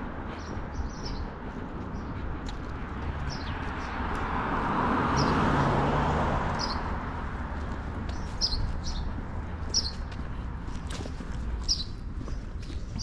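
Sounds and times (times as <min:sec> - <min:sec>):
small birds chirping: 0:00.0 - 0:04.3, 0:06.6 - 0:13.0.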